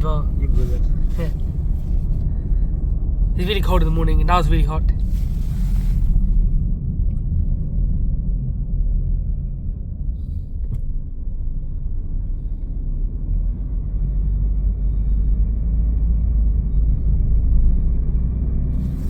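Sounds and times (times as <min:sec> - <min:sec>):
car driving along road: 0:00.0 - 0:19.0.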